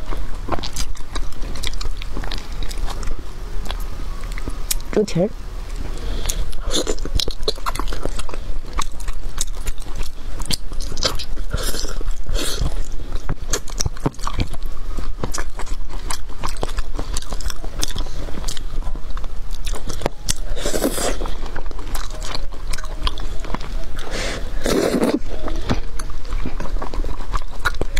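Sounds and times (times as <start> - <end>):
person chewing with mouth clicks: 0.0 - 4.9, 5.7 - 27.9.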